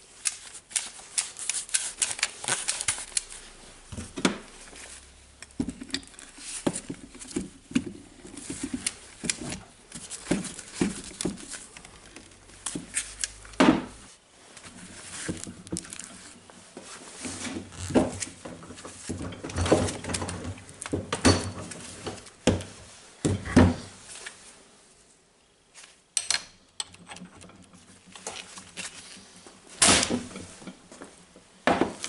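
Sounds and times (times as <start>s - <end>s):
work gloves rustling: 0.0s - 26.1s, 27.2s - 32.0s.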